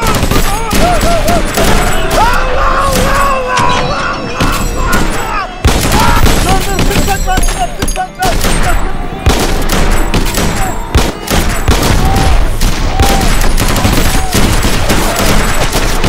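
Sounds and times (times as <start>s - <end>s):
rifle and machine-gun fire: 0.0s - 3.3s, 4.9s - 7.6s, 8.2s - 16.0s.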